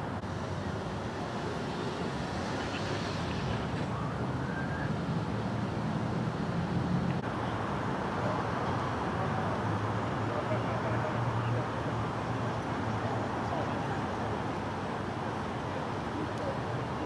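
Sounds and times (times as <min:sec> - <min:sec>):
street traffic: 0:00.0 - 0:17.0
vehicle engines idling: 0:00.0 - 0:17.0.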